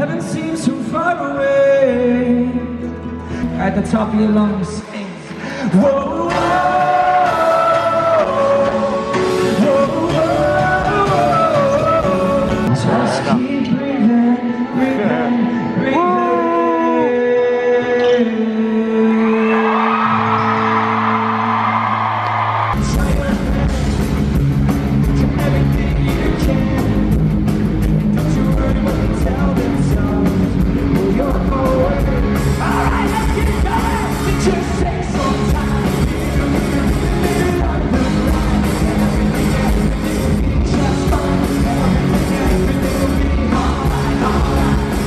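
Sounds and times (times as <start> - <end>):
live rock band playing: 0.0 - 18.9, 22.6 - 45.0.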